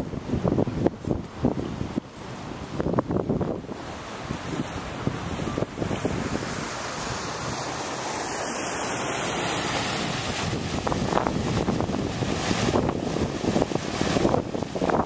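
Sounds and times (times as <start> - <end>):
car driving through floodwater: 0.0 - 15.0
tyres splashing water: 0.0 - 15.0
wind buffeting microphone: 0.0 - 15.0.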